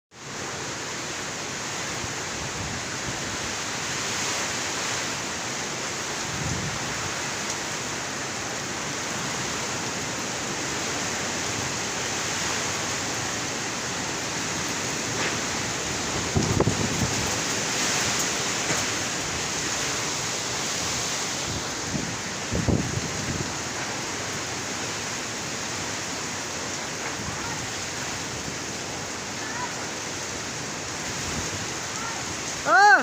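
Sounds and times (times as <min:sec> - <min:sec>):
heavy rain: 0:00.1 - 0:33.0
strong wind: 0:00.4 - 0:33.0.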